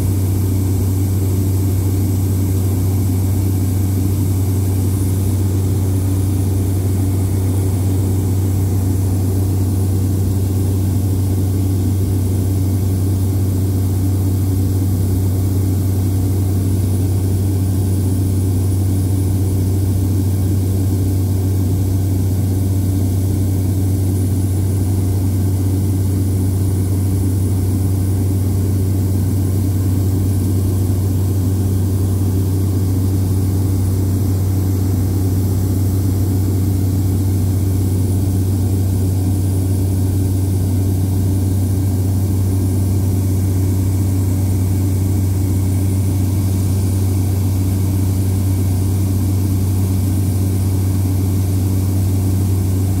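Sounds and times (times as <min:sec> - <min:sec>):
propeller engine drone in cabin: 0:00.0 - 0:53.0.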